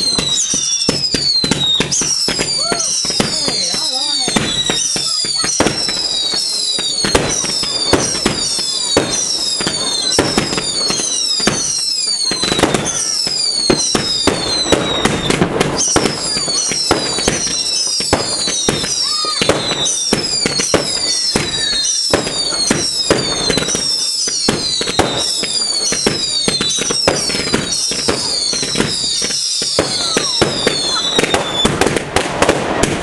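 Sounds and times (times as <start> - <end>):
firework whistles falling in pitch: 0.0 - 31.9
firework bangs and crackles: 0.0 - 33.0.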